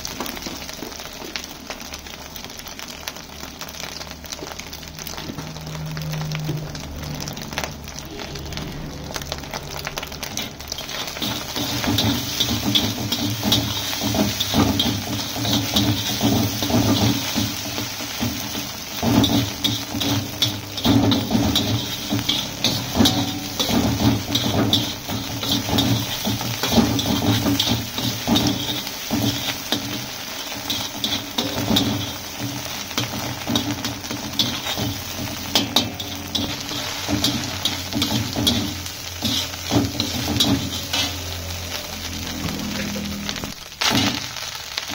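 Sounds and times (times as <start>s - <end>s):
steady sizzle: 0.0s - 44.9s.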